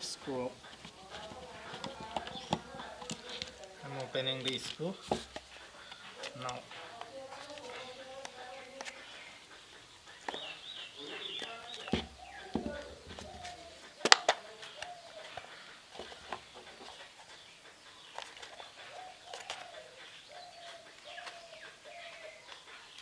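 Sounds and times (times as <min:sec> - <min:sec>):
pigeon cooing: 0:00.0 - 0:23.0.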